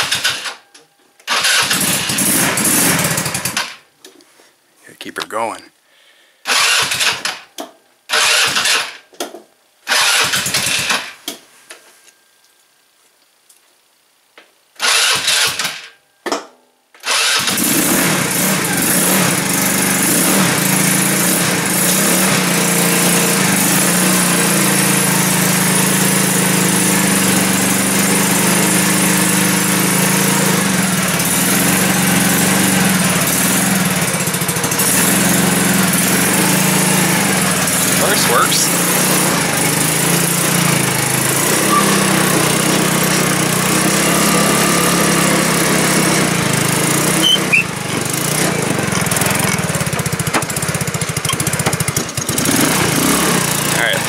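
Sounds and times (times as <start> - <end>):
go-kart engine starting and running: 0.0 - 0.6, 1.2 - 3.9, 6.4 - 9.0, 9.8 - 11.2, 14.8 - 15.9, 17.0 - 54.0.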